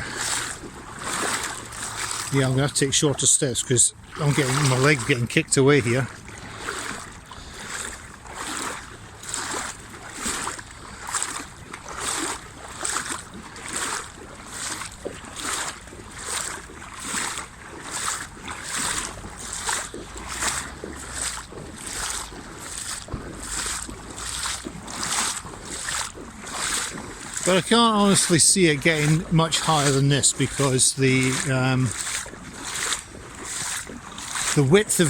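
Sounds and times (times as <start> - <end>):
wading through flowing water: 0.0 - 35.0.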